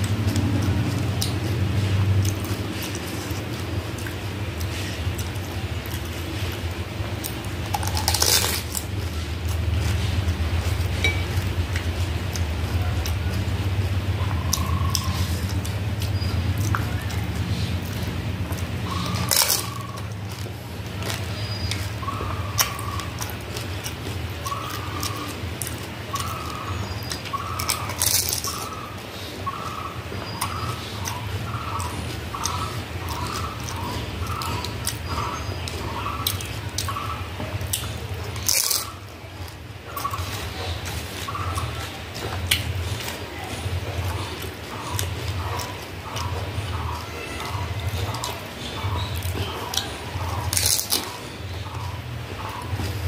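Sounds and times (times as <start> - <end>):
steady low hum: 0.0 - 53.0
crisp shell crunching: 2.2 - 28.8, 30.4 - 52.0.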